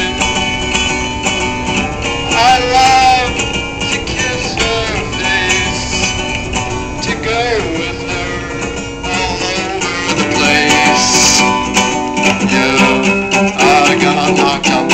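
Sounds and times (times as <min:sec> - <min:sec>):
man singing: 0:00.0 - 0:00.6, 0:02.3 - 0:06.2, 0:07.0 - 0:14.9
strummed acoustic guitar: 0:00.0 - 0:14.9.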